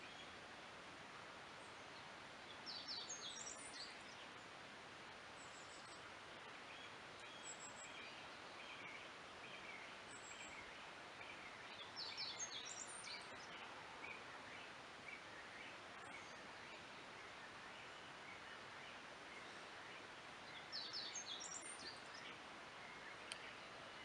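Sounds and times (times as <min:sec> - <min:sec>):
songbirds singing: 0:00.0 - 0:00.6, 0:01.4 - 0:24.0
soft steady hiss: 0:00.0 - 0:24.0.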